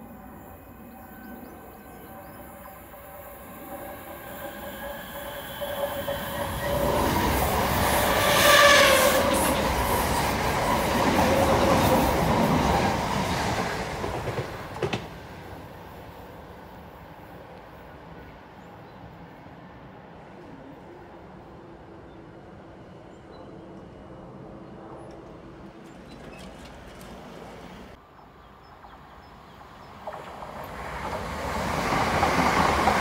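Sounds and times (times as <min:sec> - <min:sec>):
electric train passing: 0:00.0 - 0:33.0.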